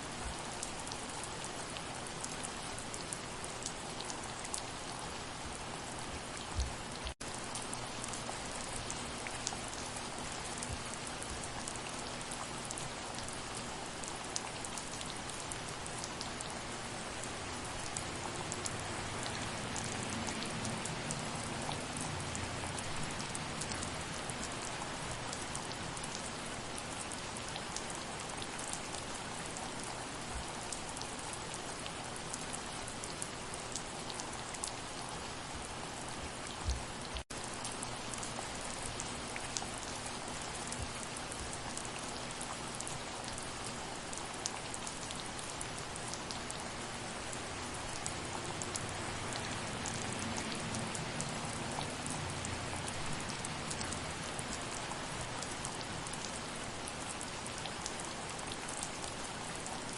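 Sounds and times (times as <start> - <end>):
rain falling: 0.0 - 59.9
raindrops ticking on a surface: 0.0 - 59.9.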